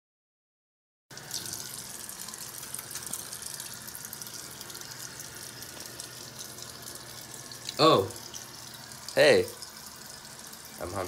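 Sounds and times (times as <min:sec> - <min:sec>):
water running from tap into sink: 0:01.1 - 0:11.0.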